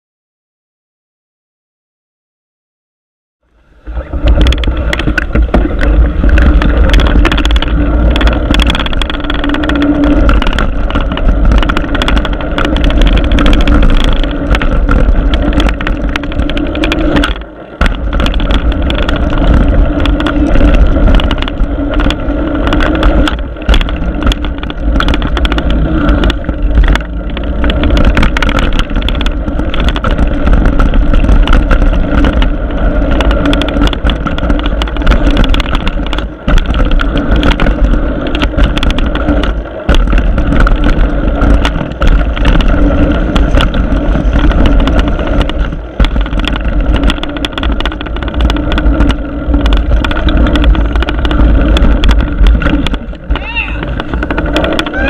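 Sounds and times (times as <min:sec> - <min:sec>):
bike rattling over rough ground: 0:03.5 - 0:55.0
wind buffeting microphone: 0:03.6 - 0:55.0.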